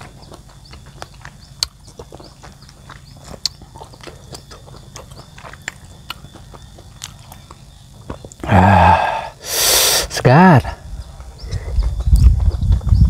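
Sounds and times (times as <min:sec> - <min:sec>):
person chewing crunchy food: 0:00.0 - 0:09.6, 0:11.1 - 0:13.0.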